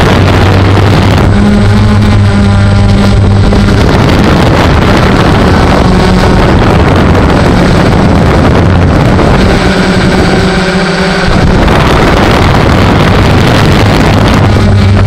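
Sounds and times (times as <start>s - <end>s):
drone motors and propellers: 0.0s - 15.0s
wind buffeting microphone: 0.0s - 15.0s.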